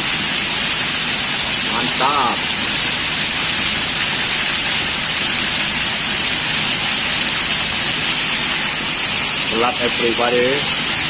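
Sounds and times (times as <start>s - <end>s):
rainwater pouring and splashing: 0.0s - 11.0s.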